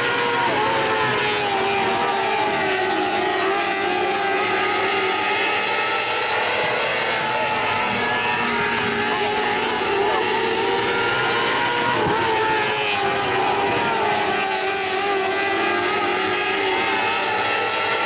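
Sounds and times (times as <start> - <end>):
race car engines buzzing: 0.0 - 18.0.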